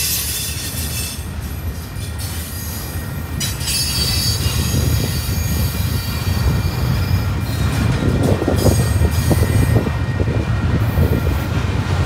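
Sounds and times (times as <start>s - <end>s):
passing train rumble: 0.0s - 12.0s.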